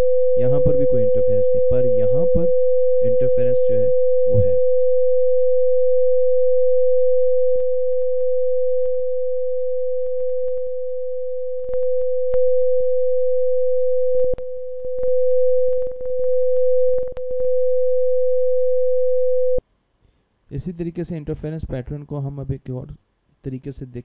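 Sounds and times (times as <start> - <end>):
electronic sine tone: 0.0 - 19.6.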